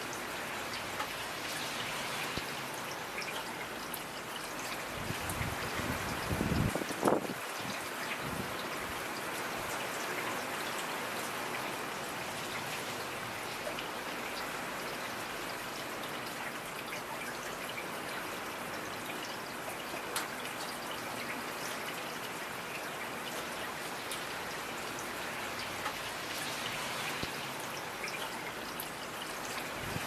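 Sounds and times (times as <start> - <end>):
steady rain hiss: 0.0 - 30.0.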